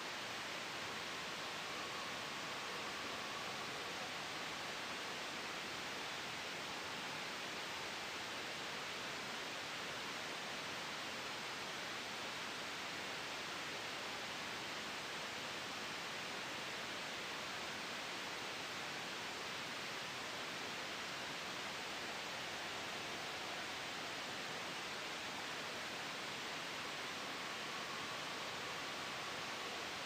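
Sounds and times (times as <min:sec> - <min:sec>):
white noise hiss: 0:00.0 - 0:30.0.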